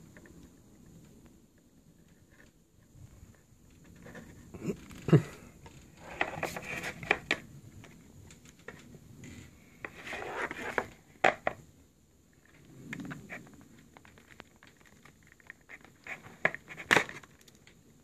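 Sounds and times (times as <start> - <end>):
rustling and scraping: 0.0 - 11.6, 12.3 - 17.9.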